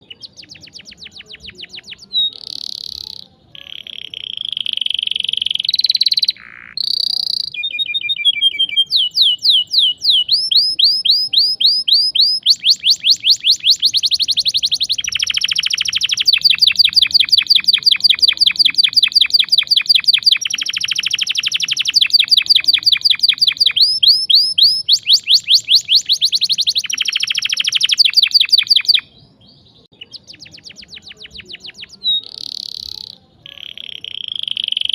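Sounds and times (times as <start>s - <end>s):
canary singing with trills: 0.0s - 34.9s.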